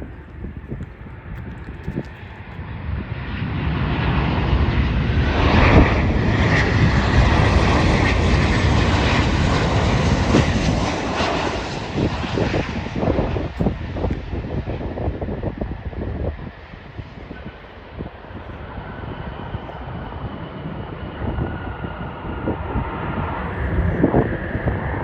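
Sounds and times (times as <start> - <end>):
jet airliner passing: 0.0 - 25.0.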